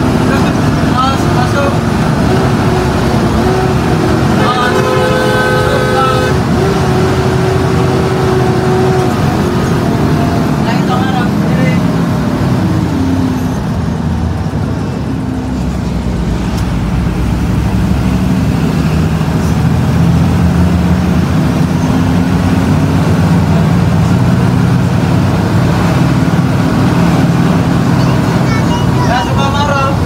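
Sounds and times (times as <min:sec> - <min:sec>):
bus diesel engine droning: 0:00.0 - 0:30.0.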